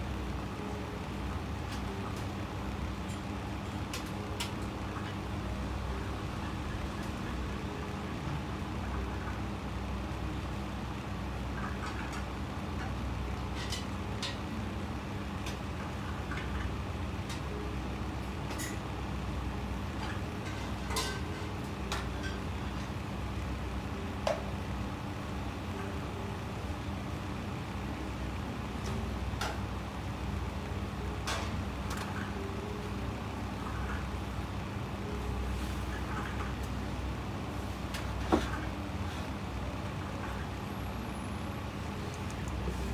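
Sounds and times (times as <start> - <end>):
low background hum: 0.0 - 42.9.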